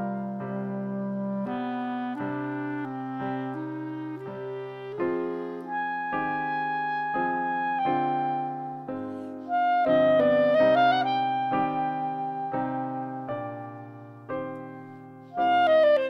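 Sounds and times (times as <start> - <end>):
clarinet melody: 0.0 - 16.0
piano chords: 0.0 - 16.0.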